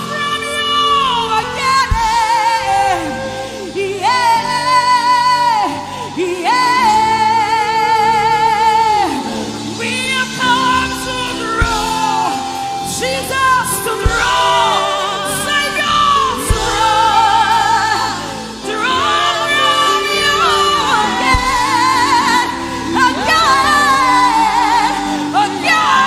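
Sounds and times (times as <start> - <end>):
instrumental accompaniment: 0.0 - 26.0
person singing with vibrato: 0.0 - 26.0.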